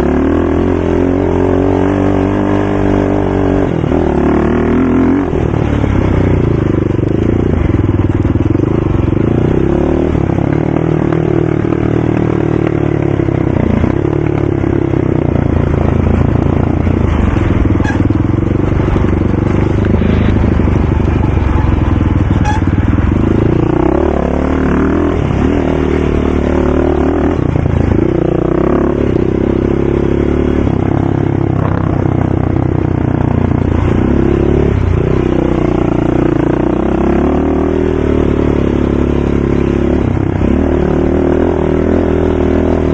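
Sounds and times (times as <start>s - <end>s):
atv engine revving: 0.0s - 42.9s.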